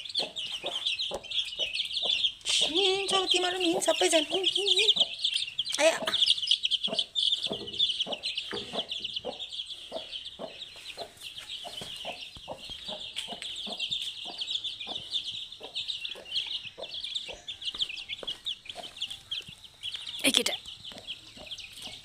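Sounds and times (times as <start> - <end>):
hen clucking: 0.0 - 19.4, 20.0 - 22.0
chicks peeping: 0.0 - 22.0.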